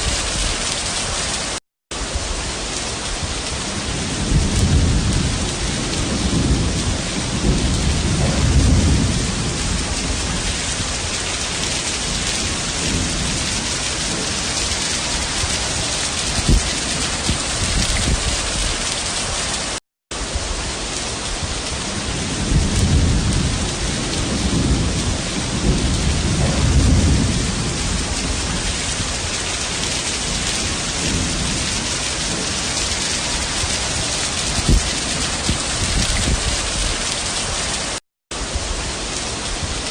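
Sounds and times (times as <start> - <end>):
heavy rain pouring: 0.0 - 39.9
low rolls of thunder: 1.9 - 19.3, 20.2 - 37.7.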